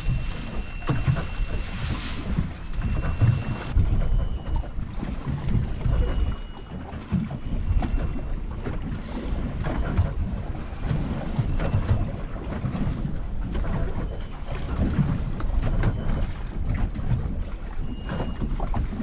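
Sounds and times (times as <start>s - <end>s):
water slapping boat hull: 0.0s - 19.0s
wind buffeting microphone: 0.0s - 19.0s.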